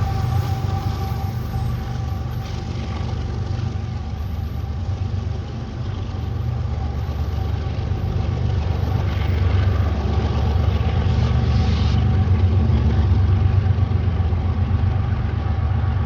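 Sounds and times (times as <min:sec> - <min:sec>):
diesel locomotive engine rumbling: 0:00.0 - 0:16.0.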